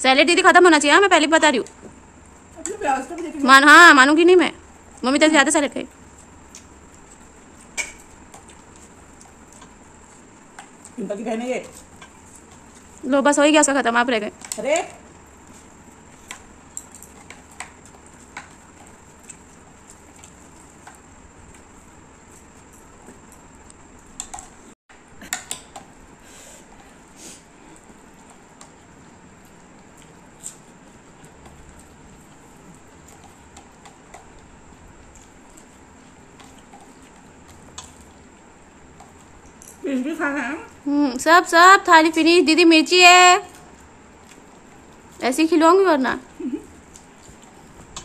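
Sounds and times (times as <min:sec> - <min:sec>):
fingers mixing rice on plates: 0:00.2 - 0:24.6, 0:25.2 - 0:48.0
chewing: 0:04.6 - 0:13.1, 0:14.3 - 0:40.9, 0:43.4 - 0:48.0.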